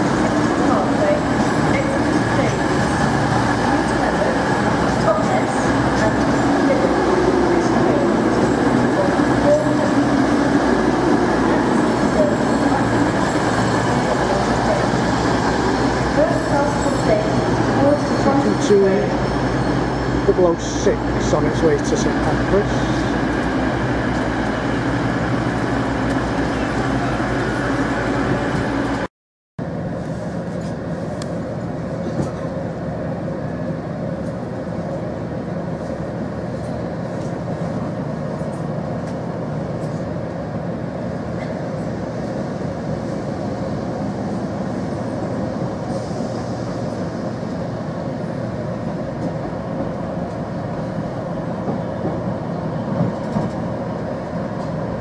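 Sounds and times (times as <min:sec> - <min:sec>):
diesel train engines running: 0:00.0 - 0:55.0
railcar running noise inside: 0:00.0 - 0:55.0.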